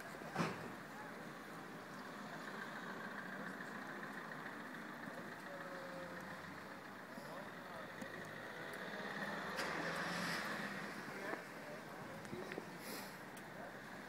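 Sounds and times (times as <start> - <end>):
distant vehicles running: 0.0 - 14.0.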